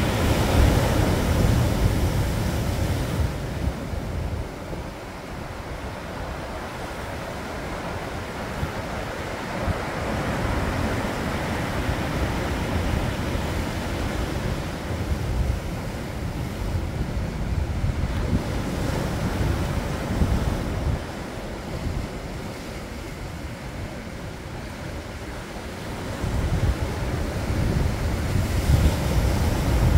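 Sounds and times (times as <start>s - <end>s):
wind rumbling on microphone: 0.0s - 29.9s.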